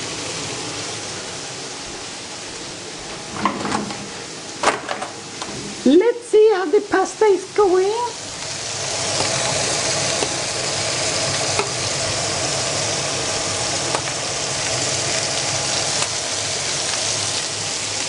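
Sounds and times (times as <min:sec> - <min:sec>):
meatballs sizzling in a frying pan: 0:00.0 - 0:02.0, 0:05.2 - 0:18.0.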